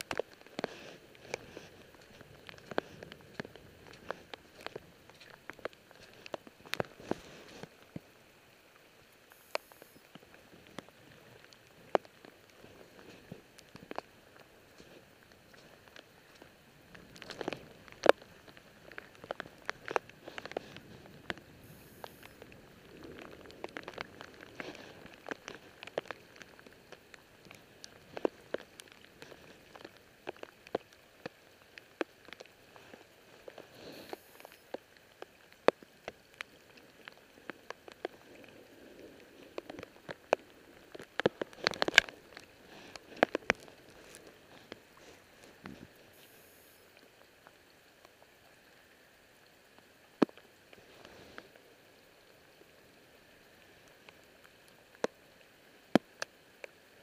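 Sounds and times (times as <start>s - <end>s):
faint rain hiss: 0.0s - 57.0s
raindrop ticks: 0.0s - 57.0s.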